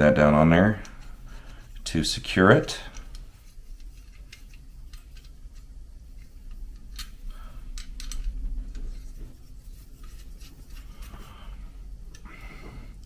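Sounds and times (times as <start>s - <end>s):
small metal clicks and scrapes: 0.6s - 11.3s.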